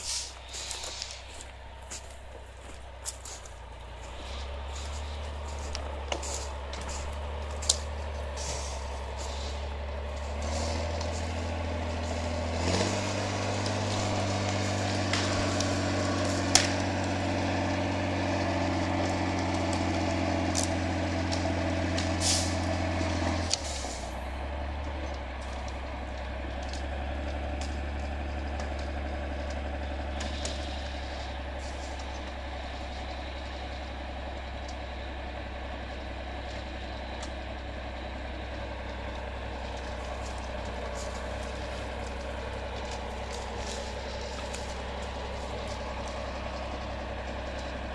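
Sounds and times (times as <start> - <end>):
diesel engine revving and idling: 0.0 - 47.9.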